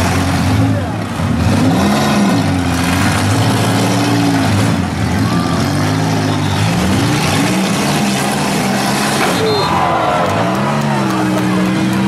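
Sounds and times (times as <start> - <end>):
engines revving hard: 0.0 - 12.0.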